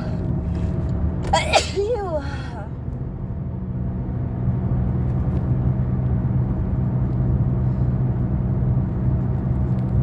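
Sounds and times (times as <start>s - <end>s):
constant low hum: 0.0s - 10.0s
engine and road noise rumble: 0.0s - 10.0s.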